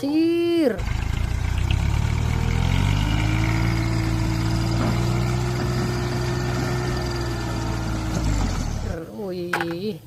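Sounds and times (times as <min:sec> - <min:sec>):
truck engine idling: 0:00.7 - 0:09.0.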